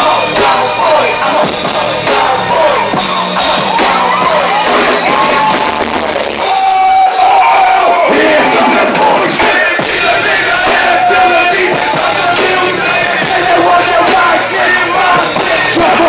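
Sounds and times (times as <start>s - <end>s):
crowd yelling: 0.0s - 16.0s
heavy hip-hop beat: 0.0s - 16.0s
shouted rap vocals: 0.0s - 16.0s.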